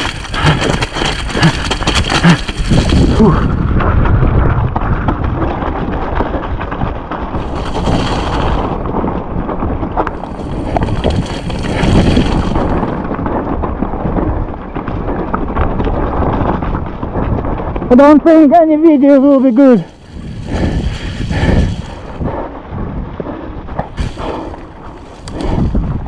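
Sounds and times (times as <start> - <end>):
bike rattling and knocking: 0.0 - 26.0
wind buffeting microphone: 0.0 - 26.0.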